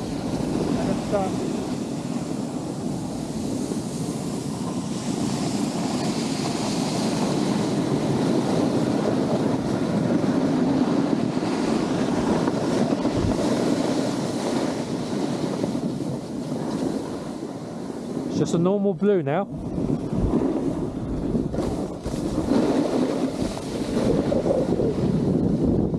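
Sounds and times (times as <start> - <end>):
snowboard scraping over snow: 0.0 - 18.6, 19.5 - 25.9
wind buffeting microphone: 0.0 - 25.9.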